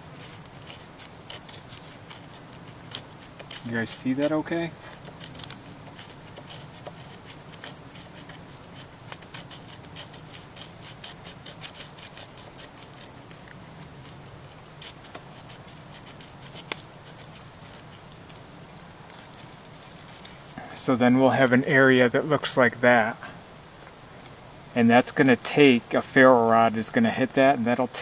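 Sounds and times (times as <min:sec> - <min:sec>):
knife scraping birch bark: 0:00.0 - 0:22.4.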